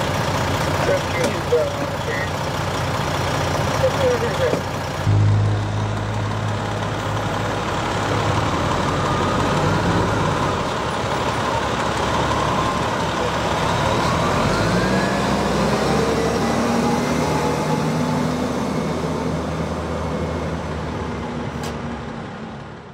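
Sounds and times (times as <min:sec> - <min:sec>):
truck diesel engine passing: 0:00.0 - 0:22.9.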